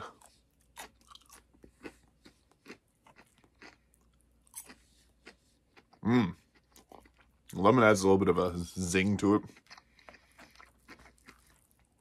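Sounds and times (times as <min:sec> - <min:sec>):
chewing crunches: 0:00.0 - 0:07.7, 0:09.1 - 0:12.0.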